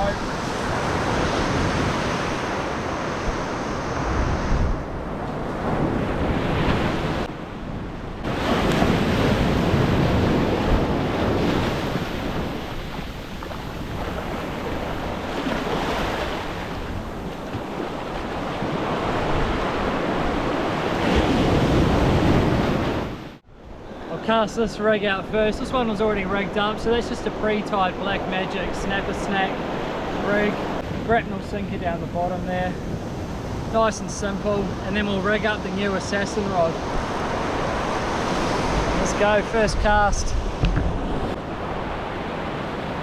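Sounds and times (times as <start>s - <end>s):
wind buffeting microphone: 0.0s - 23.9s, 29.6s - 35.8s, 36.7s - 43.0s
ocean surf breaking: 0.0s - 43.0s.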